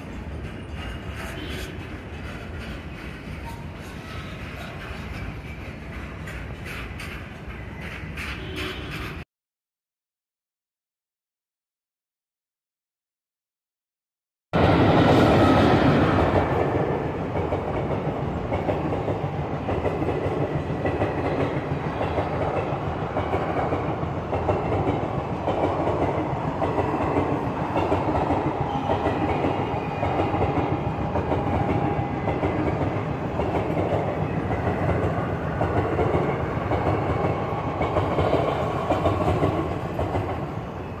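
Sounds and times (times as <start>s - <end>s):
train wheels clattering over rail joints: 0.0s - 9.2s, 16.2s - 40.6s.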